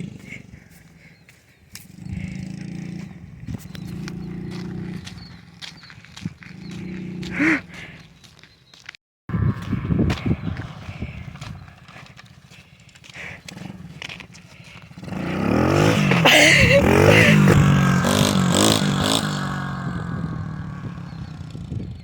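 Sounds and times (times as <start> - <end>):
pit bike engine revving: 0.0 - 0.7, 1.7 - 8.0, 9.3 - 22.0.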